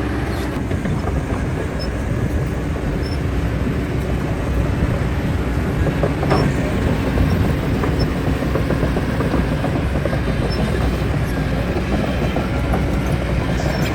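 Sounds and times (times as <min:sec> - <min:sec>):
heavy diesel engines rumbling: 0:00.0 - 0:13.9.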